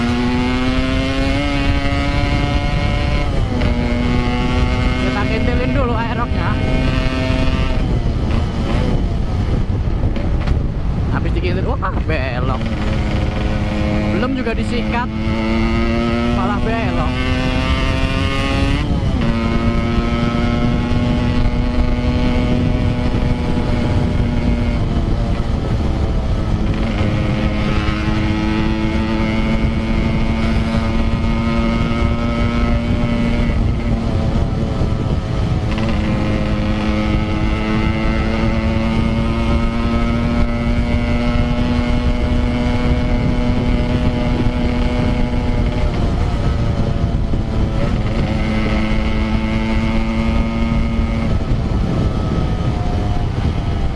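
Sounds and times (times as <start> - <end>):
motorcycle engine through gears: 0.0 - 53.9
wind rumble on microphone: 0.0 - 53.9.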